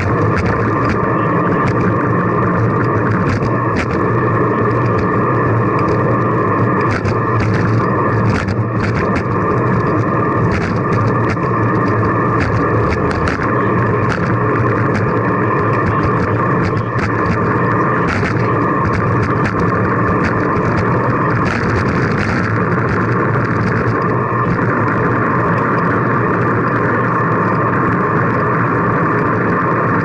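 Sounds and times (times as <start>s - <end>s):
bicycle clicks and rattles: 0.0s - 30.0s
bicycle road noise: 0.0s - 30.0s
wind noise: 0.0s - 30.0s.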